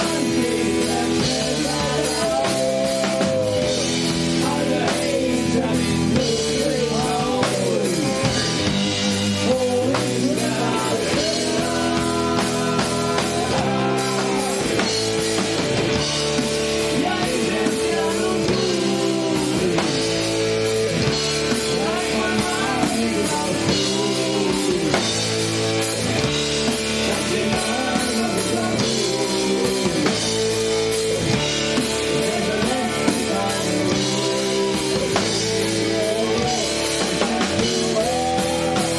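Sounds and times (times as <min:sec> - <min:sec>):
person singing: 0:00.0 - 0:15.2, 0:16.8 - 0:25.2, 0:26.7 - 0:38.9
bass guitar: 0:00.0 - 0:38.9
drum kit: 0:00.0 - 0:38.9
electric guitar: 0:00.0 - 0:38.9.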